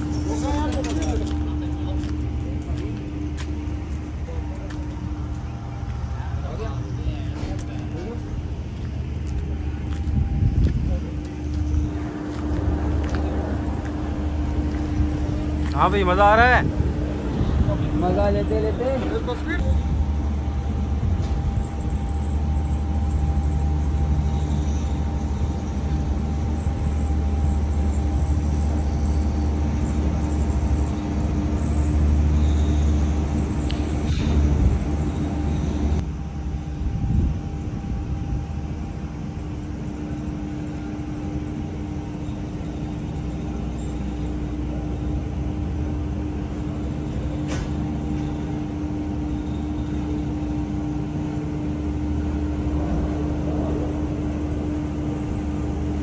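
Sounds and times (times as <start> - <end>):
cable car rumbling: 0.0 - 56.0
constant hum: 0.0 - 56.0.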